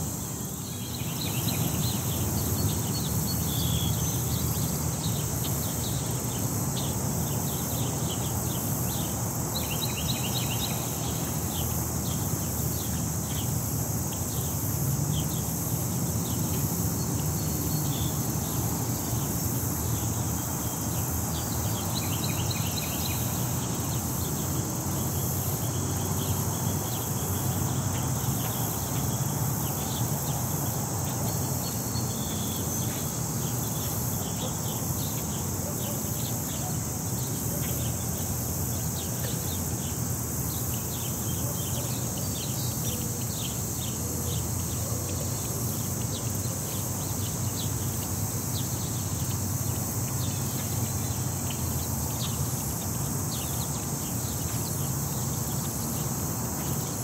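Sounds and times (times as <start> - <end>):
insects droning: 0.0 - 57.0
small birds chirping: 0.1 - 57.0.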